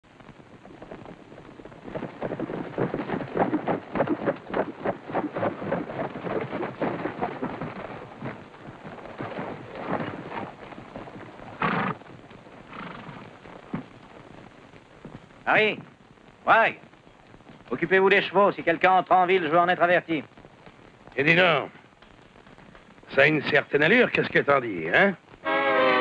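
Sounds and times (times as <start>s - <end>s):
horse hoofbeats on dirt: 0.0s - 16.0s, 16.8s - 25.5s.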